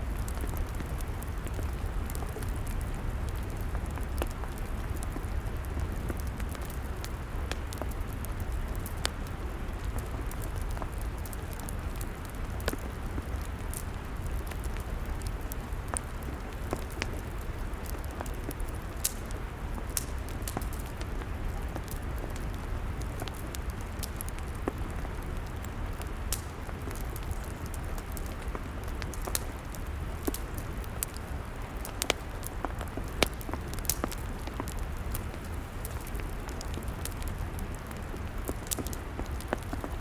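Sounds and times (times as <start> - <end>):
log fire crackling: 0.0 - 40.0.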